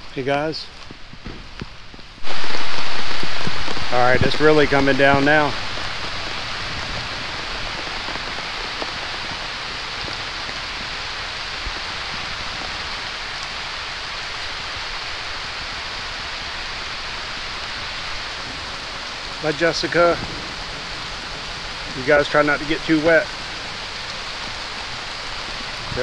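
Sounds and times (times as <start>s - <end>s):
heavy rain on grass and plants: 0.0s - 26.0s.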